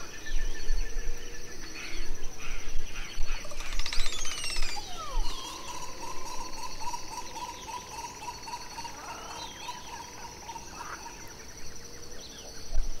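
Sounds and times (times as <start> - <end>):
birds calling: 1.6 - 12.7.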